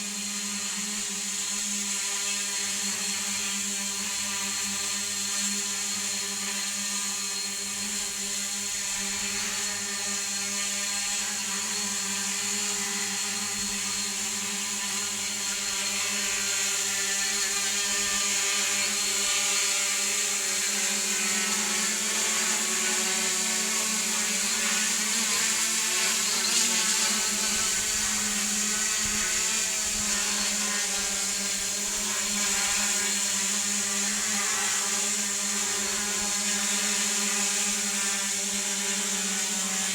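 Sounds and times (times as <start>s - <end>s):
drone motors and propellers whirring: 0.0s - 39.9s.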